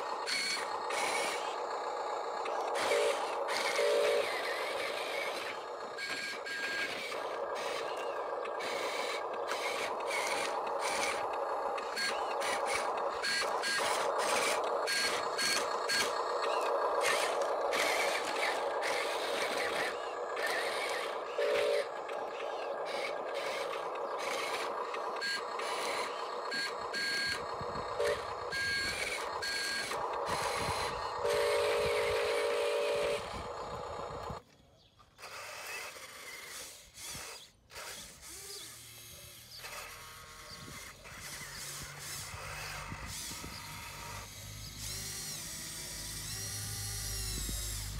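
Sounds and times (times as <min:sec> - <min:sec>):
electric motor and gear whine: 0:00.0 - 0:47.9.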